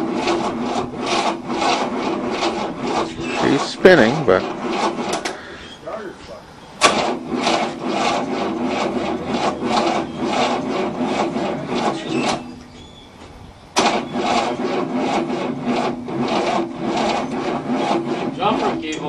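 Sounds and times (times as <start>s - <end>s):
starter motor cranking engine: 0.0s - 19.0s.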